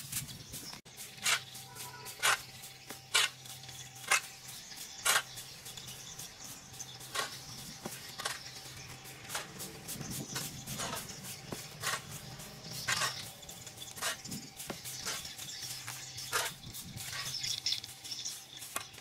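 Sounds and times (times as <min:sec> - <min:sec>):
brushing or scraping strokes: 0:00.0 - 0:19.0.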